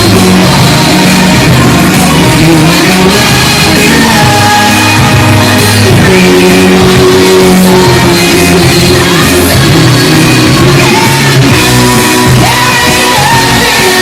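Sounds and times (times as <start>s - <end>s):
loud distorted live pop music: 0.0s - 14.0s.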